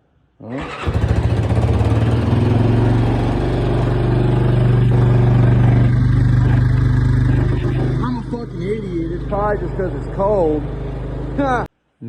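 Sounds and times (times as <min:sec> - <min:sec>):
motorbike engine idling: 0:00.6 - 0:11.7.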